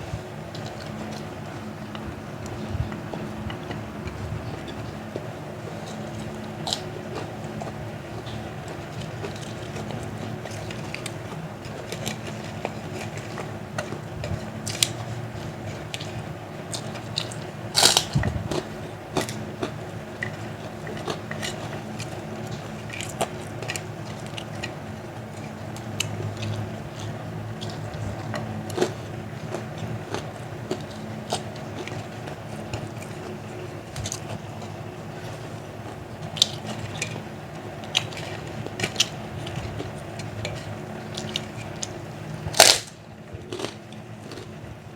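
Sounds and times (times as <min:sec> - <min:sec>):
chewing crunchy fried food: 0:00.0 - 0:44.9
steady low hum: 0:00.0 - 0:44.9.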